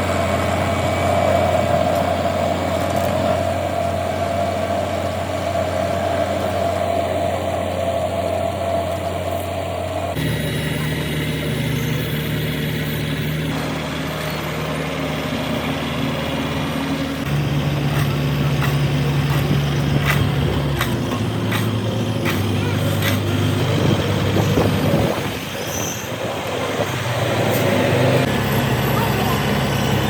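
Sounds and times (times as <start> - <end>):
heavy machinery engines running: 0.0 - 30.0.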